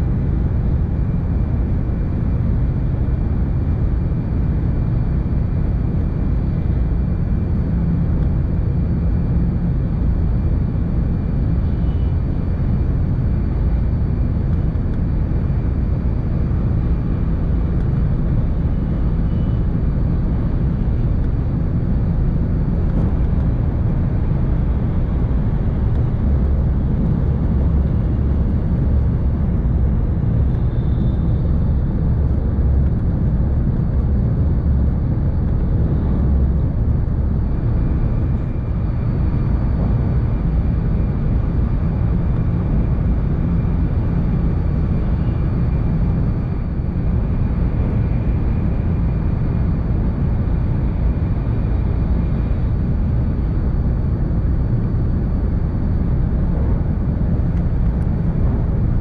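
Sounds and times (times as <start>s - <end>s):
train cabin deep rumble: 0.0s - 59.0s.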